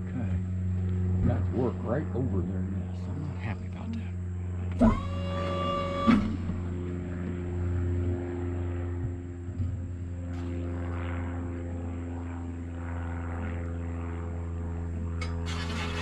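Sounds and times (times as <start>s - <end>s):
lift engine droning hum: 0.0s - 16.0s.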